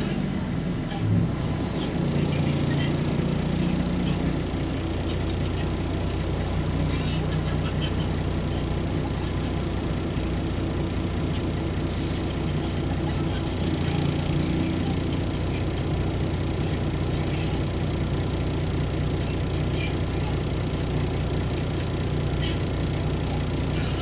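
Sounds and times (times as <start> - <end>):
bus diesel engine idling: 0.0 - 24.0.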